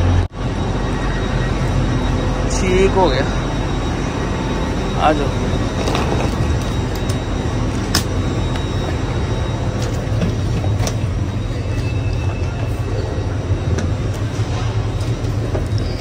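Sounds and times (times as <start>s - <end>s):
low hum of train: 0.0s - 16.0s.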